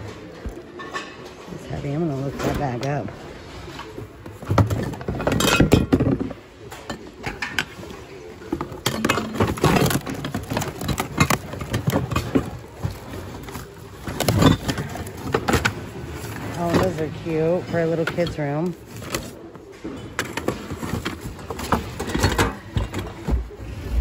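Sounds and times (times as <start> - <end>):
household goods clinking and knocking: 0.0 - 24.0.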